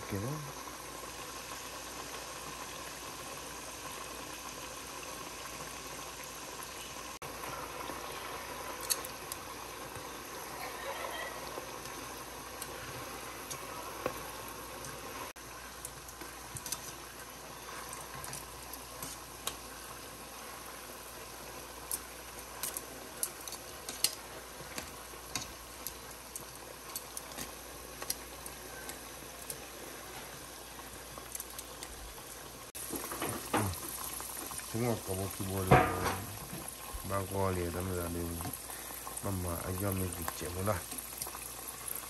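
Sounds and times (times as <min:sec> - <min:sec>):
chicken frying in hot oil: 0:00.0 - 0:42.0.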